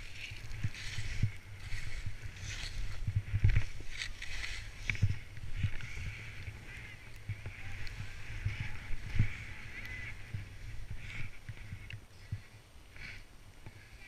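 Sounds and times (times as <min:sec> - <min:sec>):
skis swishing through snow: 0:00.0 - 0:12.4
dull low bumps: 0:00.0 - 0:12.6.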